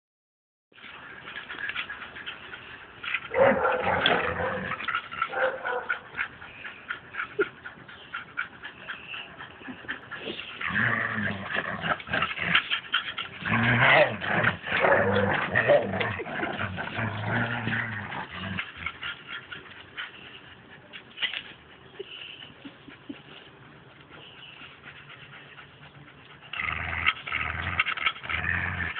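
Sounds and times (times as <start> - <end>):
dogs growling in play: 1.1 - 22.0, 22.8 - 28.9.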